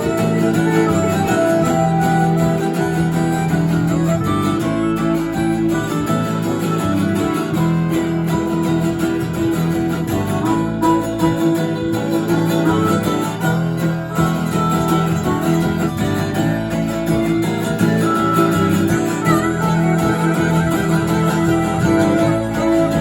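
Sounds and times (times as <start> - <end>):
instrumental guitar band music: 0.0 - 23.0.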